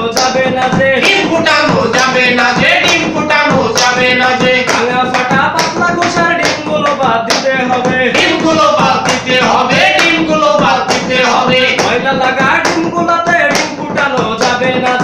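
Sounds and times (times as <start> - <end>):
men singing unaccompanied: 0.0 - 15.0
sharp hand claps: 0.0 - 15.0.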